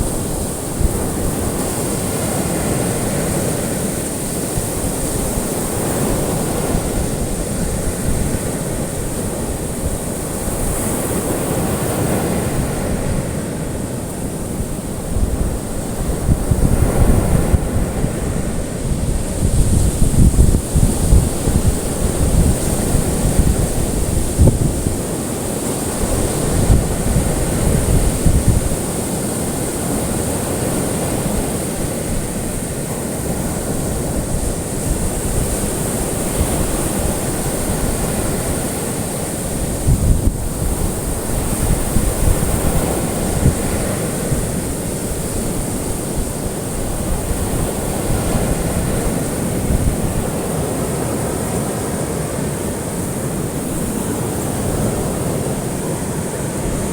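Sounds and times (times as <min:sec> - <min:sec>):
ocean waves breaking: 0:00.0 - 0:56.9.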